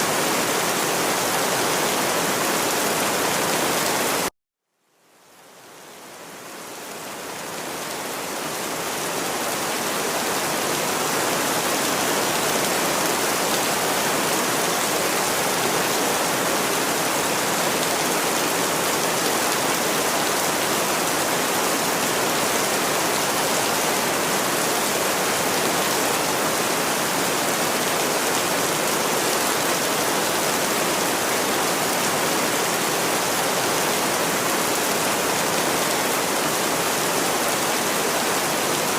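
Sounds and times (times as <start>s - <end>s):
steady rainfall hiss: 5.0s - 38.9s.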